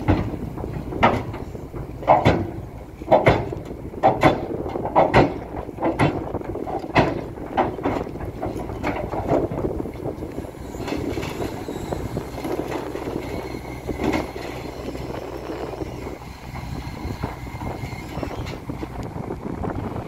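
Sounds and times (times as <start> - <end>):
low engine rumble: 0.0 - 20.0
steel tracks clanking: 0.0 - 20.0.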